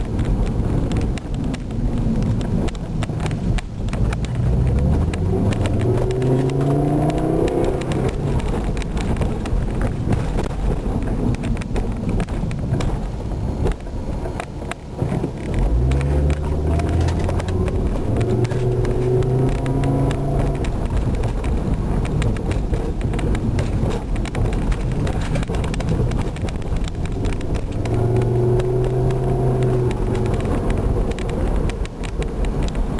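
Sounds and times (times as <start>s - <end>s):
car engine revving: 0.0s - 32.9s
road noise: 0.0s - 32.9s.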